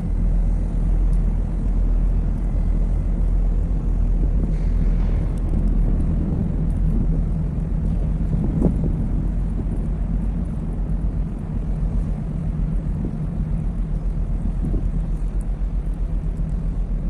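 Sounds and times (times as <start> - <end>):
ship engine rumble: 0.0 - 17.0
wind buffeting microphone: 0.0 - 17.0.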